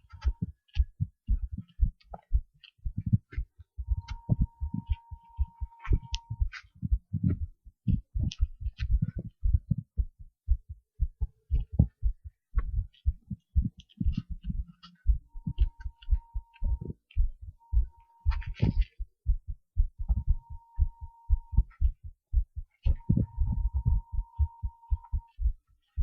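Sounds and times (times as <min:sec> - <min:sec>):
heartbeat thuds: 0:00.0 - 0:26.0.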